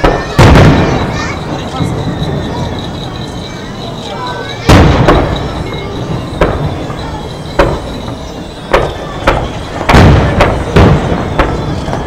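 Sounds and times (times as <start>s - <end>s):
fireworks bangs echoing: 0.0s - 12.0s.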